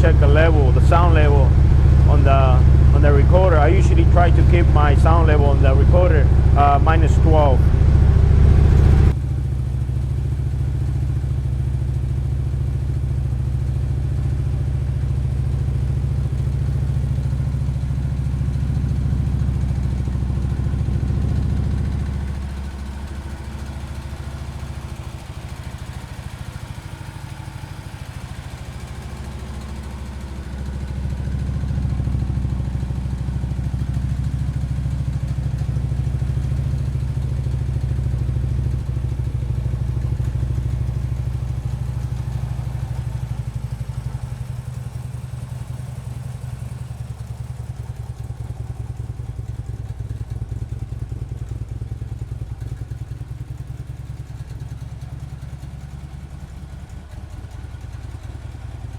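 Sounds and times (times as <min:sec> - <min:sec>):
motorcycle engine idling: 0:00.0 - 0:58.9.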